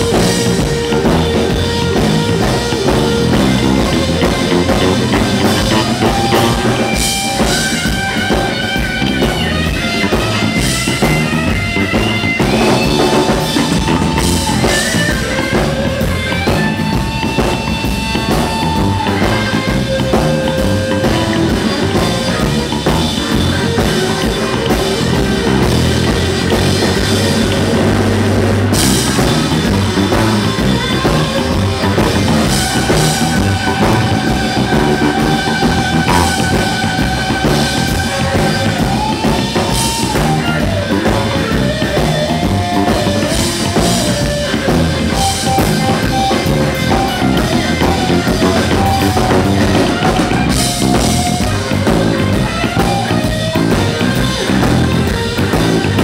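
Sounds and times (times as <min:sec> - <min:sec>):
bass guitar: 0:00.0 - 0:56.0
drum kit: 0:00.0 - 0:56.0
electric guitar bending notes: 0:00.0 - 0:56.0.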